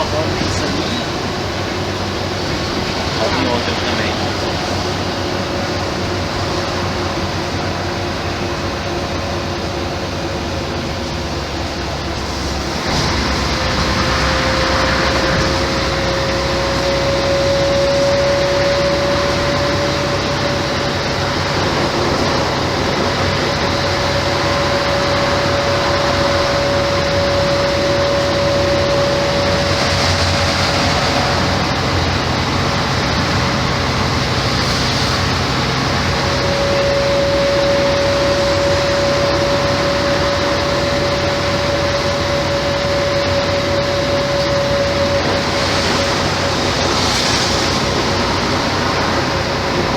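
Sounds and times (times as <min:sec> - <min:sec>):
bus engine drone: 0:00.0 - 0:49.9
high whine: 0:00.0 - 0:49.9.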